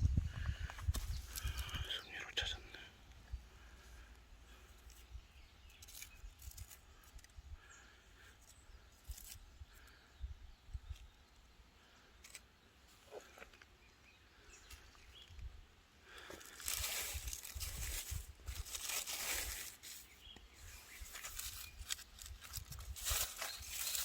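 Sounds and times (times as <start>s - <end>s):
faint bird chirps: 1.0s - 24.0s.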